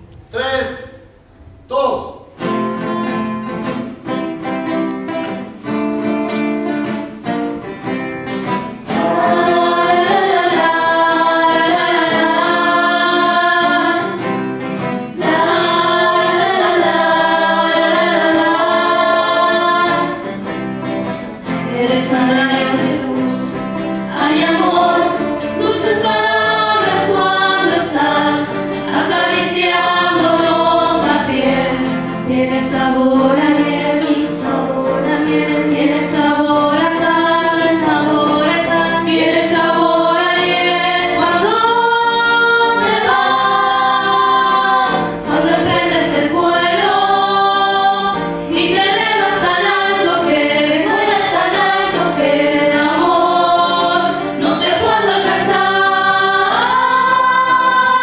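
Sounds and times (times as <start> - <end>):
acoustic guitar strumming: 0.0 - 58.0
girls singing together: 8.6 - 20.6, 21.4 - 58.0.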